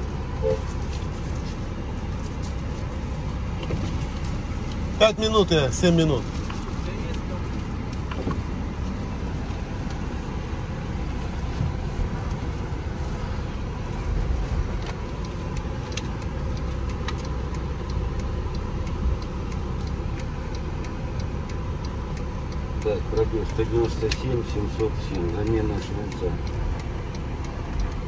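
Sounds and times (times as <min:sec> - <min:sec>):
car engine rumble inside cabin: 0:00.0 - 0:28.0.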